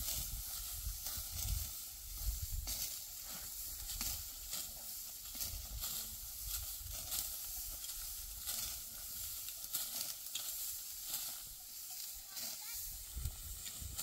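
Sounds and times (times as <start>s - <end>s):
dry straw rustling and crunching: 0.0s - 14.0s.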